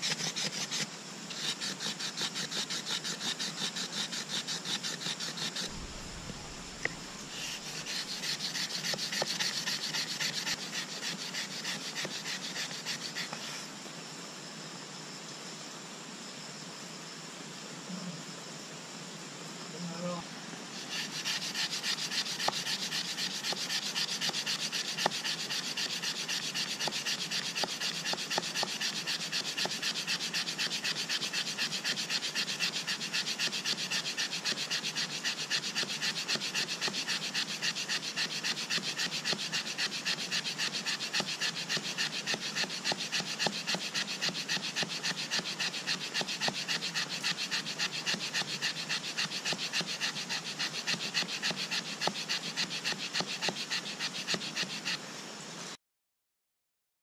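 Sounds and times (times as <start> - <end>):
wood scraping on wood: 0.0 - 13.7, 20.8 - 55.0.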